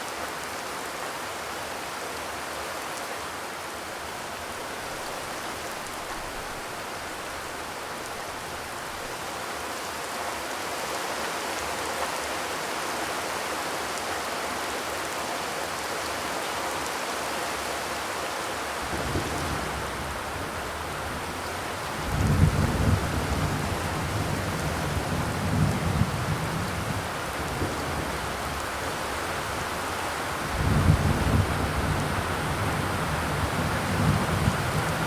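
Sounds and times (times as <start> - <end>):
rain on a metal roof: 0.0 - 35.0.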